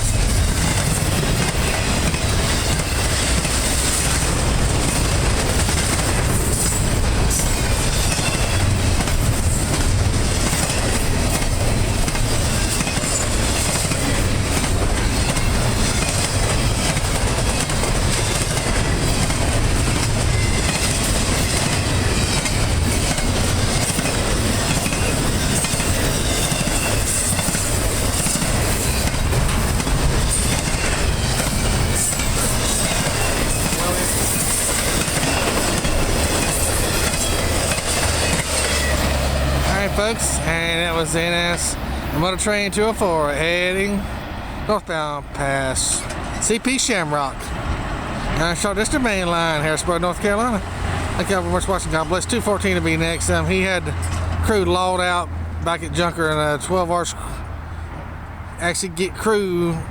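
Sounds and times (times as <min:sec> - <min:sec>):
wheels clattering over rail joints: 0:00.0 - 0:58.8
freight train rumbling past: 0:00.0 - 0:59.9.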